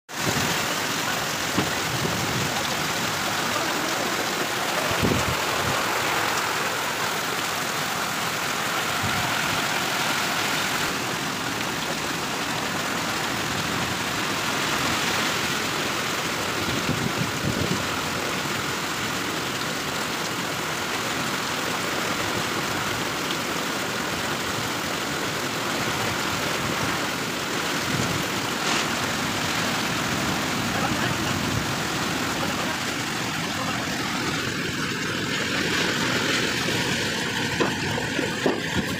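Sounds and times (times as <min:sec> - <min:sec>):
heavy rain: 0:00.1 - 0:38.9.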